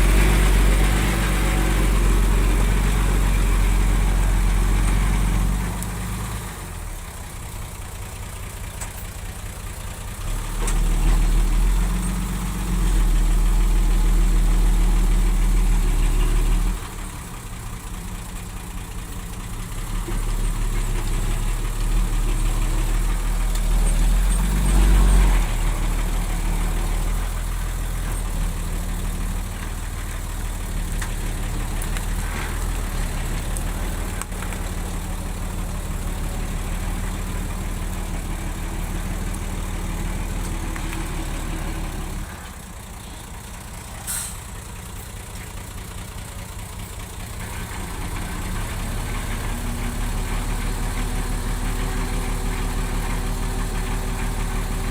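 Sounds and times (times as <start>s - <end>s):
bulldozer diesel engine droning: 0.0s - 54.9s.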